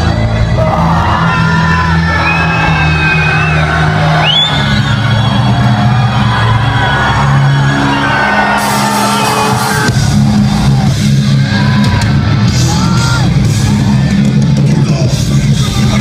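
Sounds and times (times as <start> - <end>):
audience yelling: 0.0 - 16.0
metal band playing live: 0.0 - 16.0.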